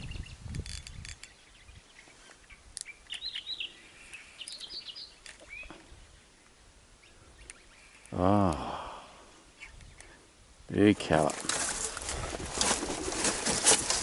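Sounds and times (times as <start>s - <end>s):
birds chirping: 0.0s - 11.3s.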